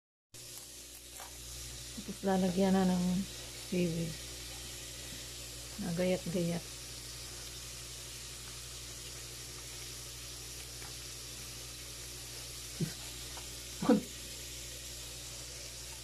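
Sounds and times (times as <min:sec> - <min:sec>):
low mains hum: 0:00.4 - 0:16.0.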